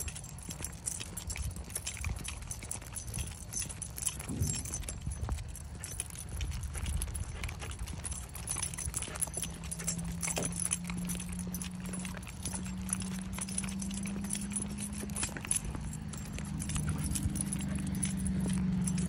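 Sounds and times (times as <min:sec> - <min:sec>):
dog harness clicking and jingling: 0:00.0 - 0:19.0
steps on pavement: 0:00.0 - 0:19.0.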